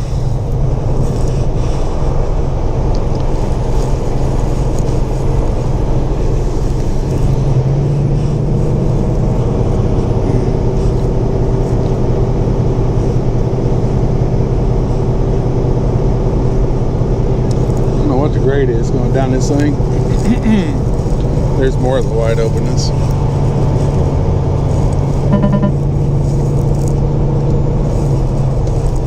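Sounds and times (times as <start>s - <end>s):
steady whine: 0.0s - 28.2s
diesel engine and road noise: 0.0s - 29.0s.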